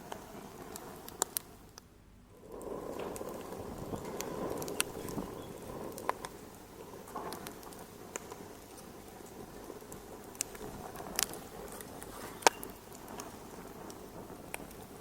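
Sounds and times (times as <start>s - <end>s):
sharp pops of burning wood: 0.0s - 15.0s
wood fire crackling: 0.0s - 15.0s.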